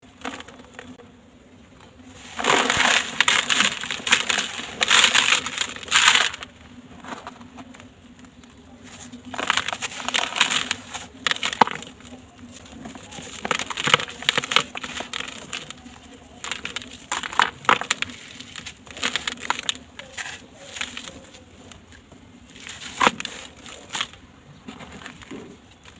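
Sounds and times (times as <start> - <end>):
blocks crunching and crumbling: 0.0 - 25.9.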